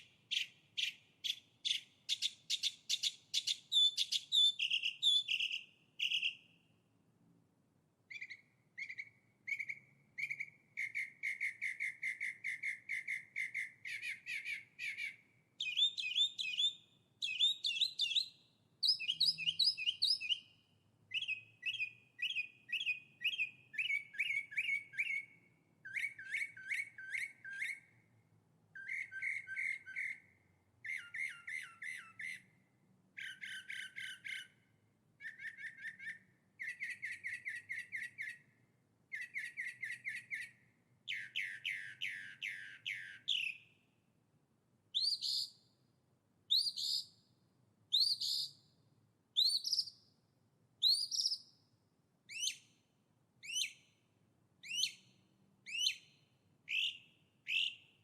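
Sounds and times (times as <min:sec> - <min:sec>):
songbird singing: 0:00.0 - 0:06.8, 0:08.1 - 0:28.1, 0:28.8 - 0:43.9, 0:44.9 - 0:45.7, 0:46.5 - 0:47.2, 0:47.9 - 0:48.8, 0:49.4 - 0:50.1, 0:50.8 - 0:51.6, 0:52.3 - 0:52.8, 0:53.4 - 0:54.0, 0:54.6 - 0:58.0.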